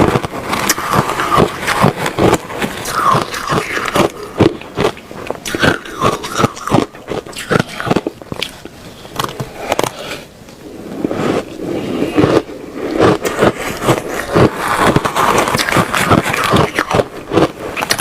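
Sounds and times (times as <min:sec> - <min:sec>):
ice being chewed: 0:00.0 - 0:10.3, 0:11.3 - 0:18.0.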